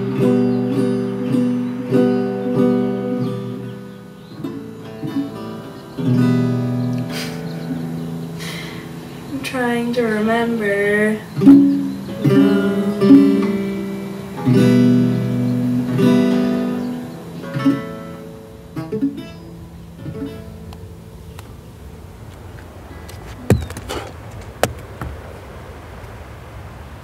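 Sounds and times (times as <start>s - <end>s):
acoustic guitar chords strummed: 0.0s - 22.1s
steady hiss: 0.0s - 27.0s.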